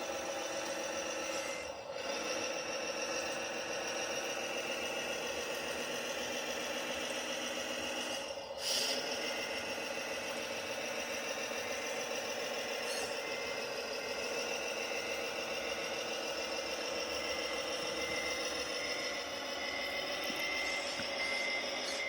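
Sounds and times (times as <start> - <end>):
model truck whine and rattle: 0.0 - 22.0.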